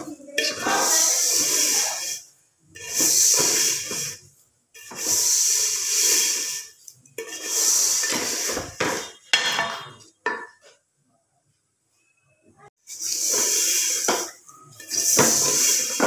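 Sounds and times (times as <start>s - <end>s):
spatula scraping in metal pot: 0.0s - 10.4s, 12.9s - 16.0s.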